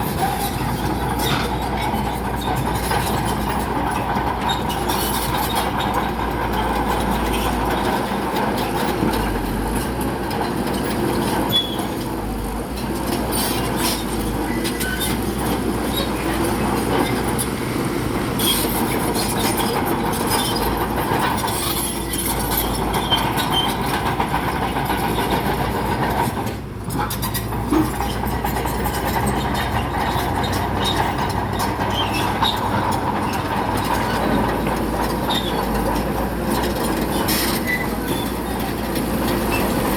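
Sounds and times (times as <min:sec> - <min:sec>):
diesel engine running: 0:00.0 - 0:39.9
steel tracks clanking and squealing: 0:00.0 - 0:39.9.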